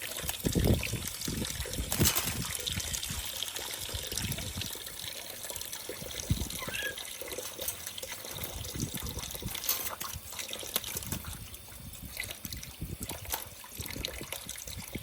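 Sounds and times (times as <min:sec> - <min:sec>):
running water trickling: 0:00.0 - 0:15.0.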